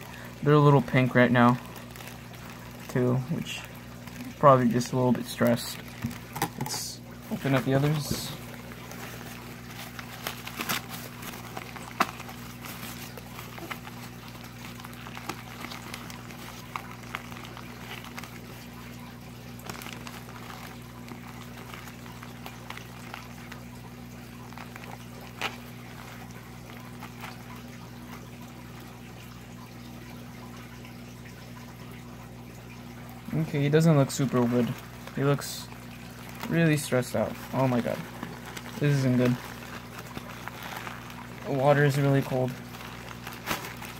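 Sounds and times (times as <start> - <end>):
plastic bags and paper crinkling: 0.0 - 28.9, 33.2 - 43.9.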